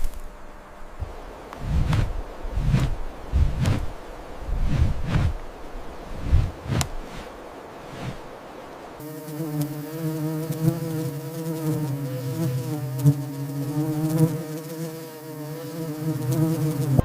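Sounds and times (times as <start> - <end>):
insect wings buzzing: 0.0 - 8.4, 9.0 - 17.0.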